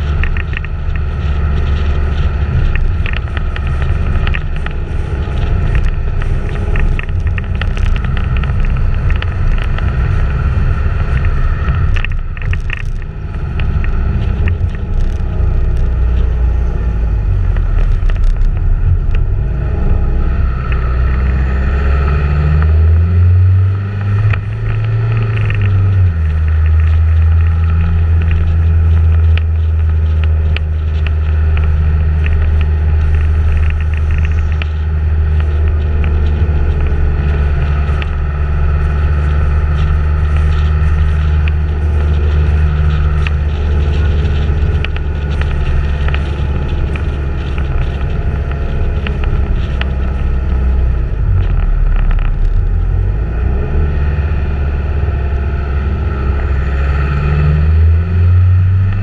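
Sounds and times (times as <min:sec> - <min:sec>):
vehicle engine running: 0:00.0 - 0:59.0
wind rushing over microphone: 0:00.0 - 0:59.0.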